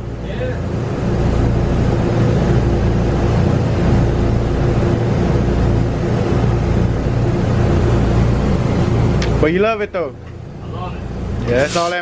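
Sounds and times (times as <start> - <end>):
engine droning steadily: 0.0 - 11.7.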